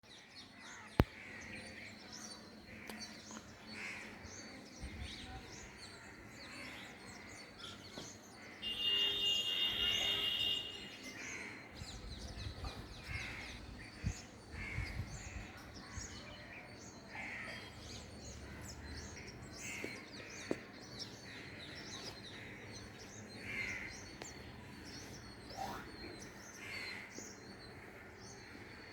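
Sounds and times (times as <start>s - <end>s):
birds chirping: 0.1s - 28.9s.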